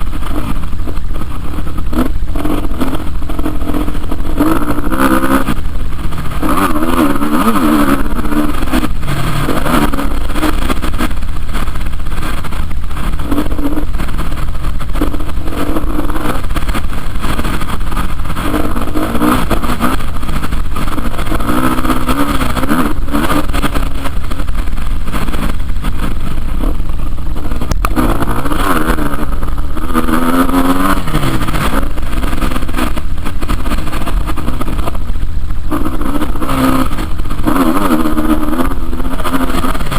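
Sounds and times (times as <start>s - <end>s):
motorcycle engines revving: 0.0s - 39.9s
steady deep rumble: 0.0s - 39.9s.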